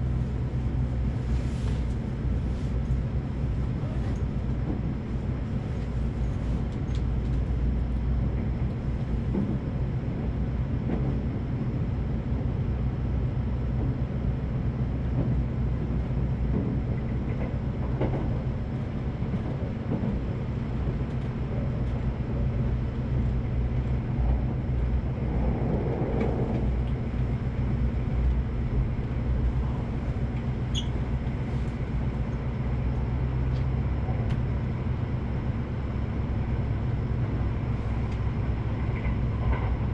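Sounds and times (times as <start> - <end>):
electric train rumbling: 0.0 - 39.9.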